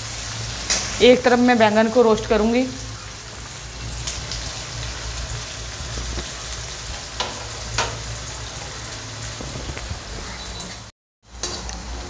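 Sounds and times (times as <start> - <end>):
onions sizzling in oil: 0.0 - 10.9.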